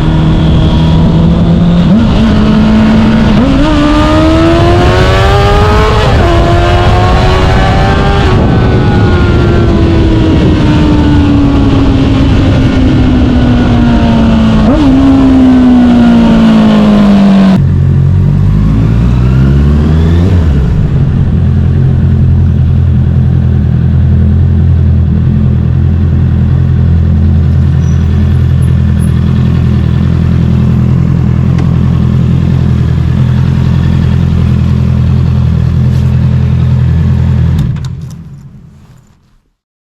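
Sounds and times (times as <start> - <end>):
motorcycle engine: 0.0 - 39.3
wind noise: 0.0 - 39.3.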